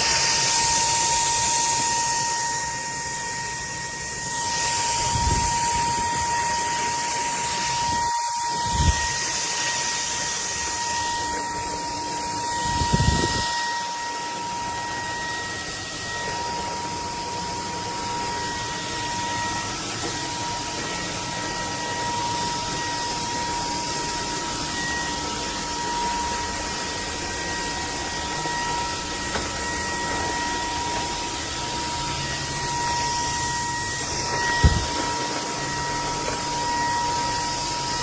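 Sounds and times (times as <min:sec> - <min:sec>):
stick vacuum running: 0:00.0 - 0:38.0.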